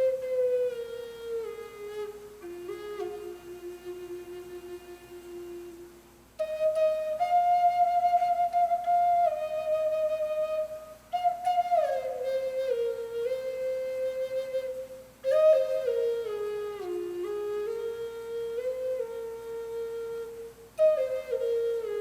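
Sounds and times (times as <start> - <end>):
flute playing slow melody: 0.0 - 22.0.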